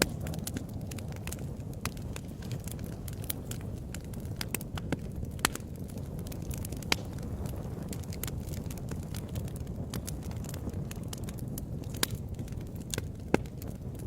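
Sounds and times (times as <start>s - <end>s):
low rumble of burning: 0.0s - 14.0s
wood fire crackling and popping: 0.0s - 14.0s.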